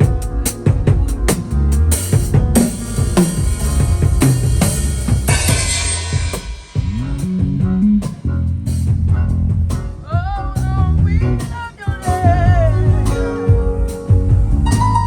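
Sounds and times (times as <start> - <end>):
bass guitar notes: 0.0 - 15.0
drum hits: 0.0 - 15.0.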